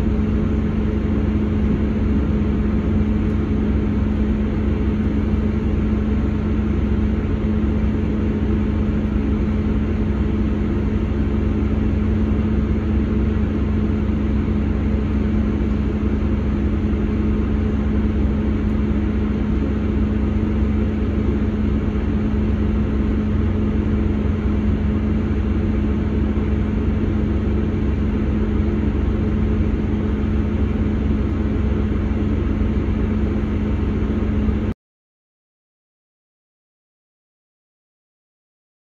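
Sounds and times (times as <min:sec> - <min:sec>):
diesel train engine drone: 0:00.0 - 0:34.8.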